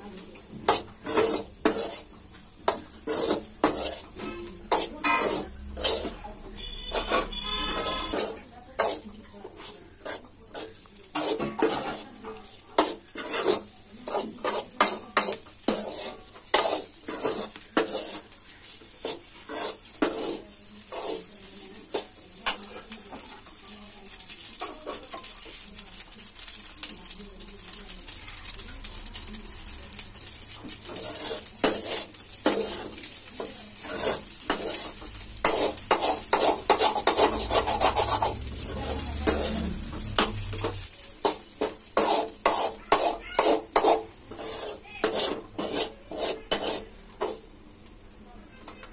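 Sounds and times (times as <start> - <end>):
frying sizzle: 0.0 - 48.9
metal ladle scraping a pan: 0.4 - 27.7, 28.4 - 47.5.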